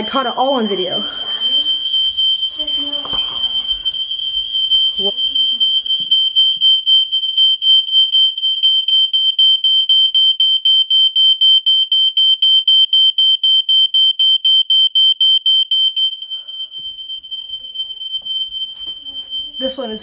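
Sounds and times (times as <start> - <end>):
smoke alarm pulsing tone: 0.0 - 20.0.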